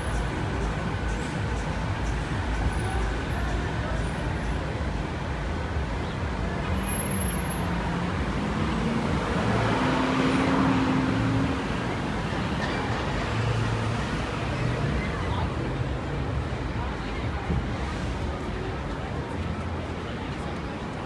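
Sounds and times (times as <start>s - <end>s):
city traffic road noise: 0.0s - 21.0s.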